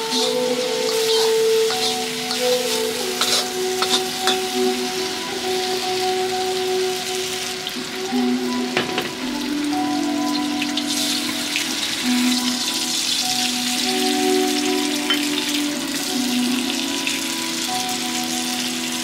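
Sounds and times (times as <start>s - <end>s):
background music with held notes: 0.0s - 19.0s
oil sizzling in a wok: 0.0s - 19.0s.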